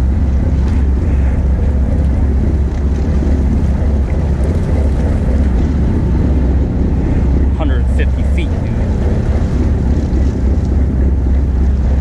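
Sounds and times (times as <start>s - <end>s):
water lapping against boat hull: 0.0s - 12.0s
wind buffeting microphone: 0.0s - 12.0s.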